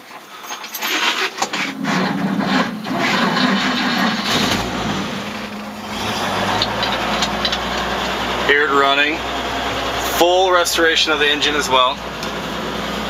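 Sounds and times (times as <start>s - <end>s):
truck engine idling: 1.4s - 13.0s.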